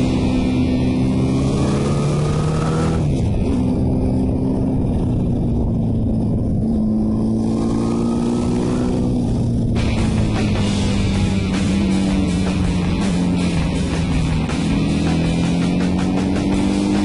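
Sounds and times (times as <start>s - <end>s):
motorcycle engine accelerating: 0.0s - 17.0s
steady rushing noise: 0.0s - 17.0s.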